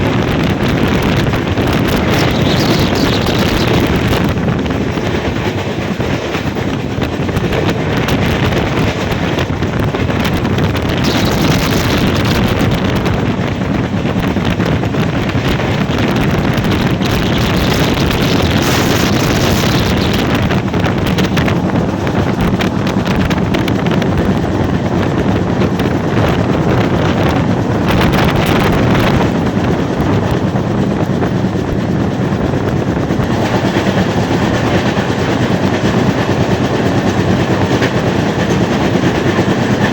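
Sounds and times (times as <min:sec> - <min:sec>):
train rushing and rumbling: 0:00.0 - 0:39.9
wind buffeting microphone: 0:00.0 - 0:39.9.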